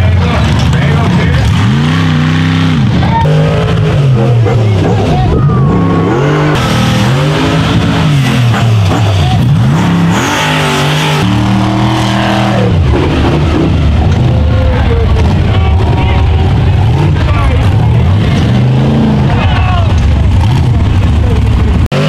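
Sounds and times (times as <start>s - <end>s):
buggy engines revving hard: 0.0s - 22.0s.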